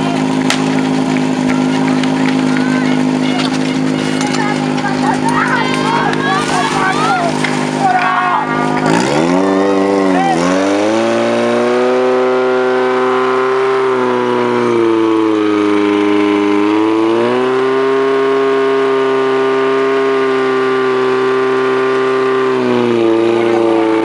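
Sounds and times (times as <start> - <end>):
pump engine running flat out: 0.0 - 24.0.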